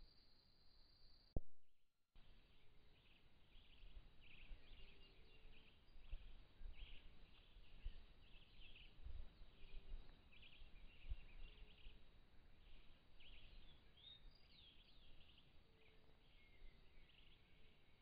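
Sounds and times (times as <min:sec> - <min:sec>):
birds chirping and trilling: 0:02.4 - 0:18.0.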